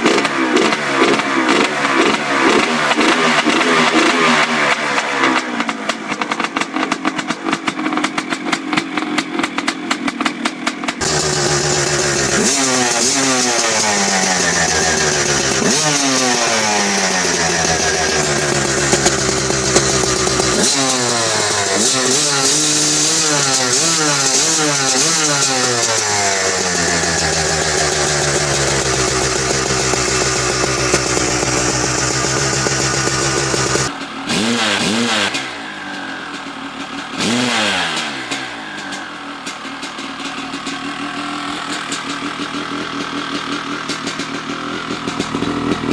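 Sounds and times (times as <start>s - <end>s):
two-stroke dirt bike engine revving: 0.0s - 45.9s.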